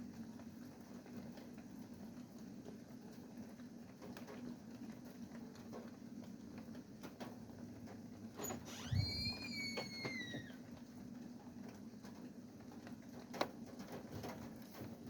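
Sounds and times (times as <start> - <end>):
light rain pattering: 0.0 - 8.4, 9.4 - 15.0.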